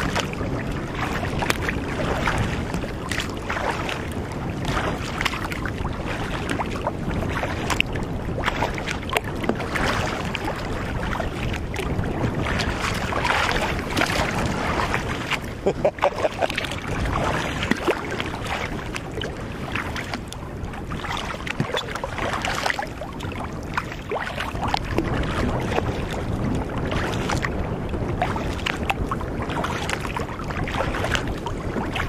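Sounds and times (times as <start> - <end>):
water splashing against kayak hull: 0.0 - 32.0.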